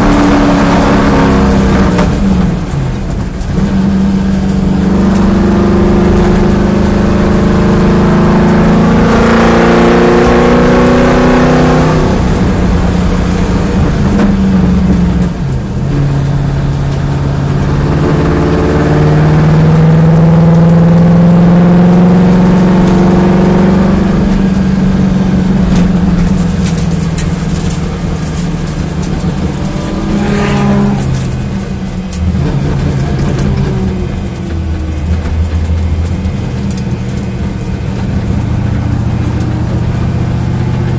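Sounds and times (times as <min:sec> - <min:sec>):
car engine misfiring and revving: 0:00.0 - 0:40.9.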